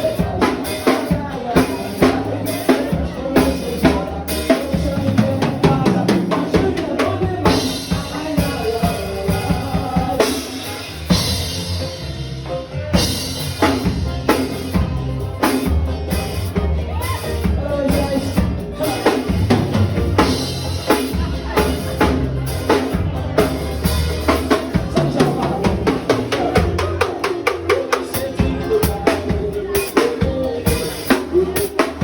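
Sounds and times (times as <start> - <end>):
drum kit beats: 0.0 - 32.0
live band playing: 0.0 - 32.0.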